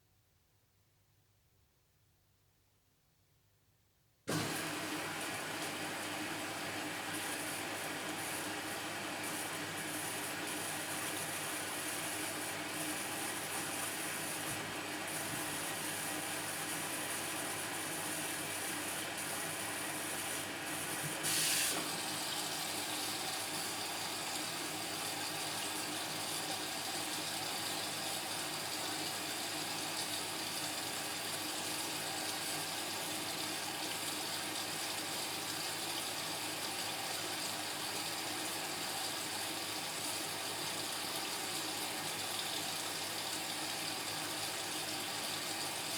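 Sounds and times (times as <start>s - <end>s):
washing machine filling with water: 4.3s - 45.9s.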